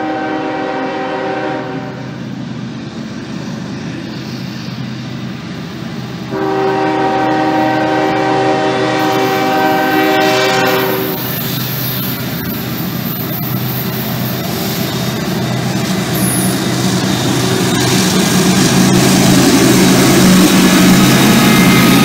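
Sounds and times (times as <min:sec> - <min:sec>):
locomotive engines droning: 0:00.0 - 0:22.0
train rumble: 0:00.0 - 0:22.0.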